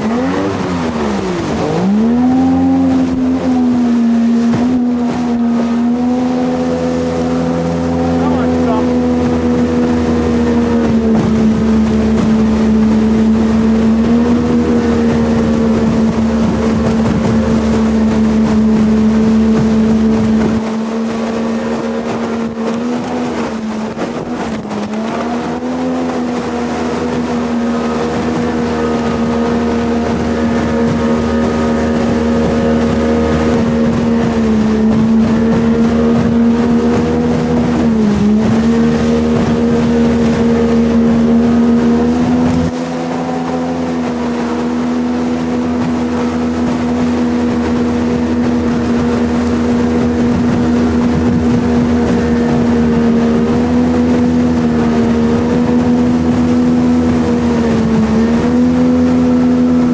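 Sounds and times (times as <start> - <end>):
jet boat engine running: 0.0 - 59.9.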